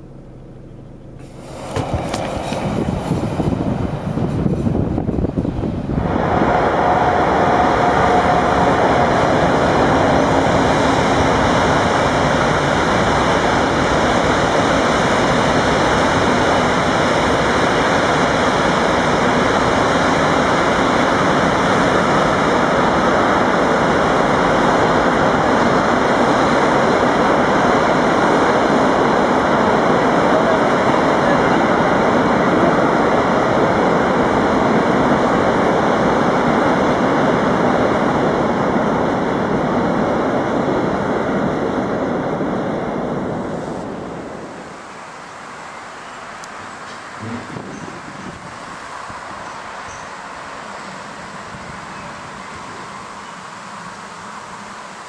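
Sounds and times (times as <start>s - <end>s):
freight train wagons rolling past: 1.2s - 55.0s.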